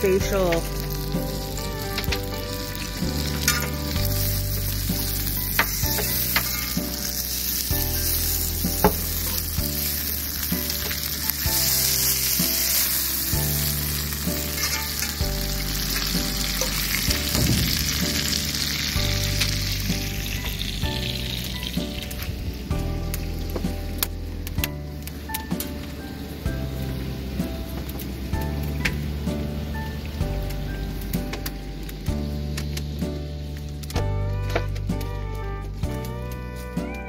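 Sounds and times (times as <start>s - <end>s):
music with bass line: 0.0s - 37.0s
sap boiling and sizzling: 0.0s - 37.0s
wood fire crackling: 0.0s - 37.0s.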